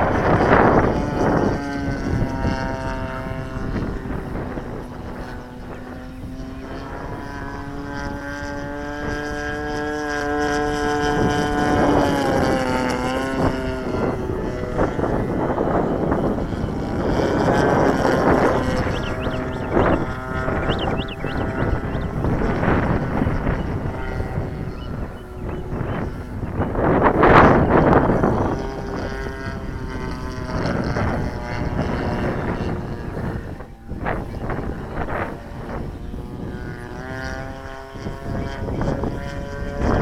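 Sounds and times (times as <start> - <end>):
model airplane engine droning: 0.0 - 40.0
wind buffeting microphone: 0.0 - 40.0.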